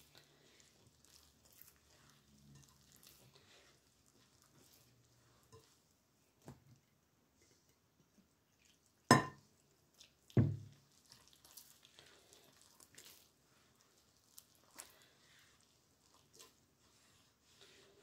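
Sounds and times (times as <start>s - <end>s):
hand kneading sticky dough: 0.0s - 18.0s.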